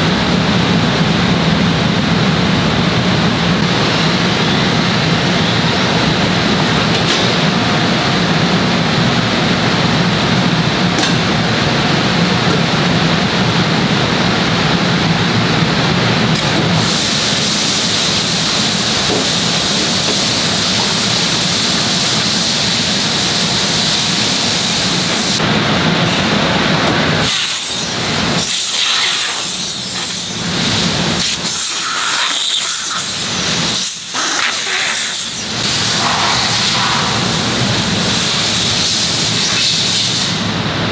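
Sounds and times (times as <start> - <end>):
molding press hissing and humming: 1.9 - 40.9.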